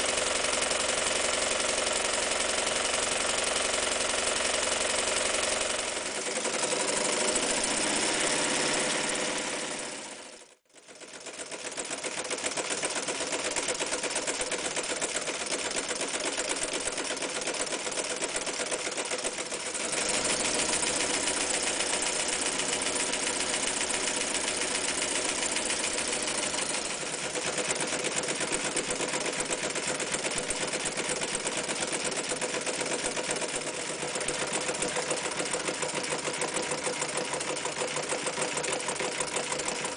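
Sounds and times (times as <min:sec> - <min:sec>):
electric sewing machine stitching: 0:00.0 - 0:39.9.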